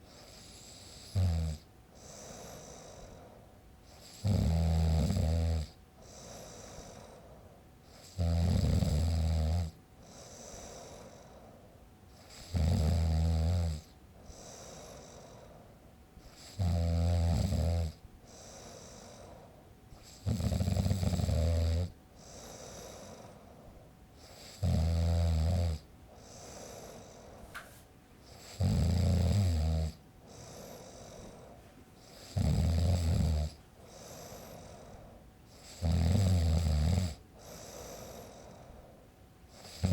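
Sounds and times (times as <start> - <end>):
quiet breathing: 0.0 - 4.4, 5.7 - 8.2, 9.6 - 16.8, 17.5 - 25.0, 25.8 - 36.4, 37.0 - 39.9
man snoring with rattle: 0.0 - 15.6, 16.2 - 27.4, 28.2 - 39.9.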